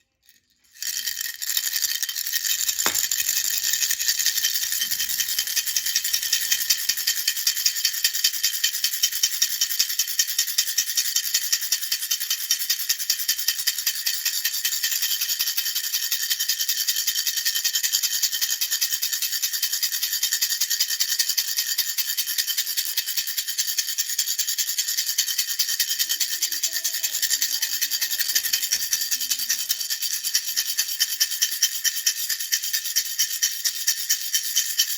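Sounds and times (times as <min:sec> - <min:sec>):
baby rattle shaking: 0:00.0 - 0:34.9.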